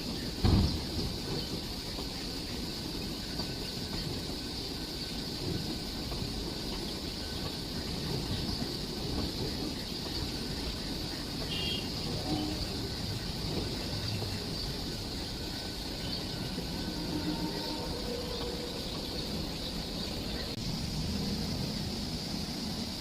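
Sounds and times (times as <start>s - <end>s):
high hiss: 0.0s - 23.0s
moving train rumble: 0.0s - 23.0s.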